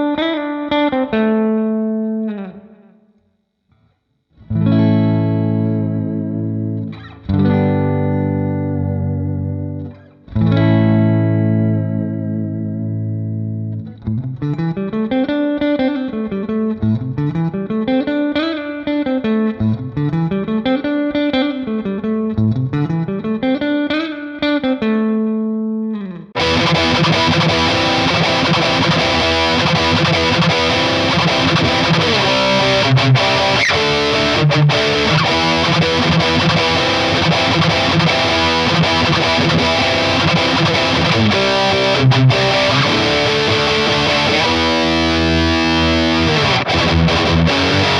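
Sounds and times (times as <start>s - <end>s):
clean electric guitar arpeggios: 0.0s - 3.0s, 4.4s - 47.9s
distorted electric guitar rhythm: 0.0s - 3.0s, 4.3s - 47.9s.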